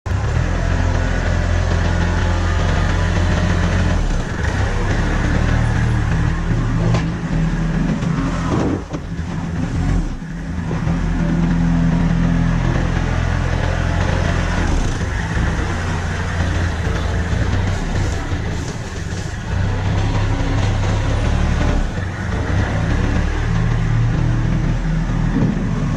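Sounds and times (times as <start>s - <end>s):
diesel engine under varying load: 0.0s - 25.9s.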